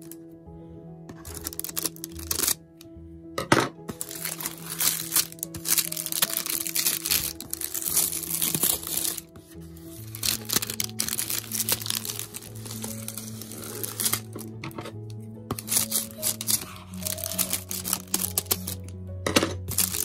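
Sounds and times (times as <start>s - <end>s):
background music with held chords: 0.0s - 20.0s
plastic shrink wrap crinkling: 1.1s - 2.6s, 3.9s - 14.8s, 15.5s - 19.0s, 19.6s - 20.0s.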